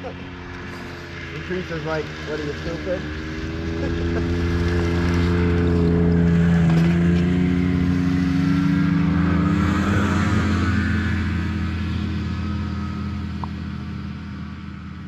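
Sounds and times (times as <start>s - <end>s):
snowmobile engines passing: 0.0s - 15.0s.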